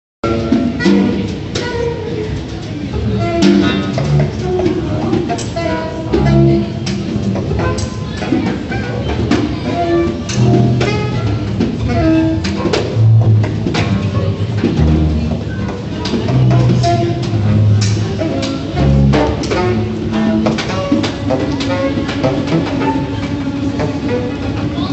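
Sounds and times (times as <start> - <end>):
drum strikes: 0.2 - 1.9, 3.0 - 24.2
double bass notes: 0.2 - 24.9
saxophone phrases: 0.2 - 24.9.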